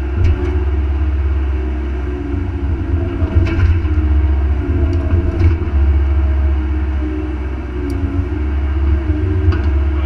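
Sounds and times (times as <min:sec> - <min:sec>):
excavator diesel engine: 0:00.0 - 0:10.0.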